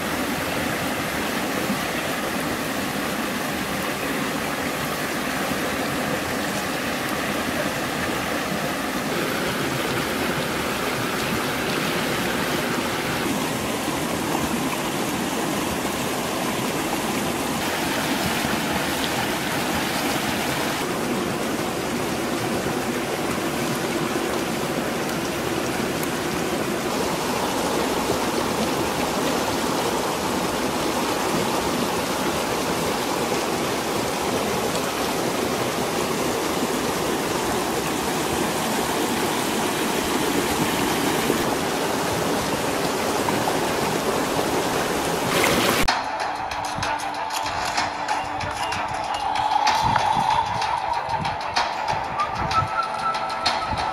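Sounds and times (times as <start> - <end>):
stream rushing over stones: 0.0 - 53.9.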